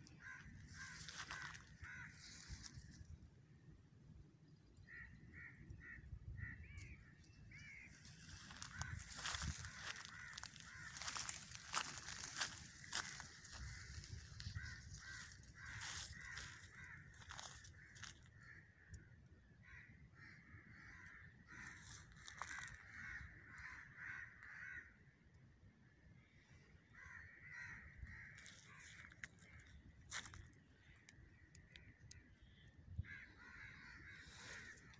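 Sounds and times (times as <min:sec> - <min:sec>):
crows cawing faintly: 0:00.0 - 0:03.2, 0:04.5 - 0:34.9.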